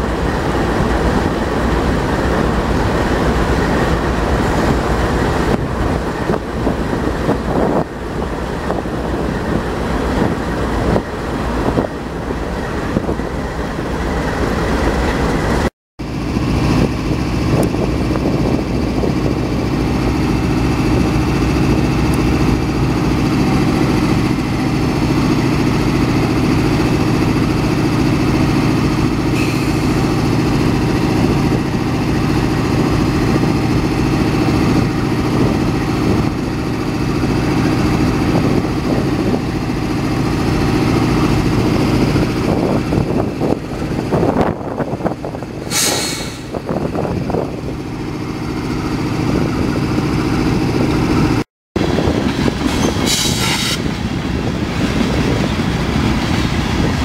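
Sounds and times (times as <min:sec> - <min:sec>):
diesel locomotive idling: 0:00.0 - 0:57.0
train cars rolling past: 0:00.0 - 0:57.0.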